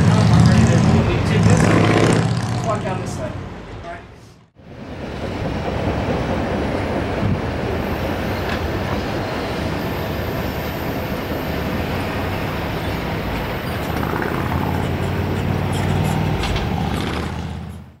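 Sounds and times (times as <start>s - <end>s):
freight train rumbling past: 0.0s - 18.0s
locomotive engine hum: 2.6s - 18.0s.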